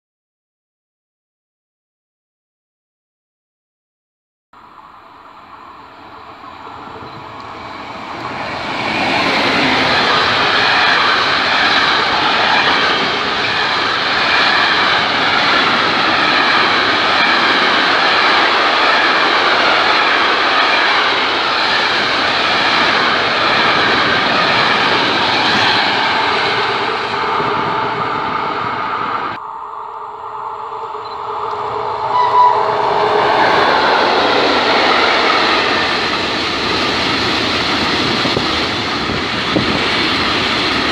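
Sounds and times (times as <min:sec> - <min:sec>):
freight train passing: 0:04.6 - 0:40.9.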